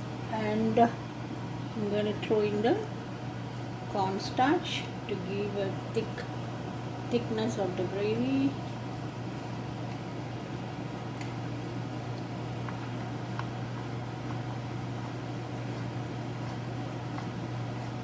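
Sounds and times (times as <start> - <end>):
fan motor humming: 0.0 - 18.0.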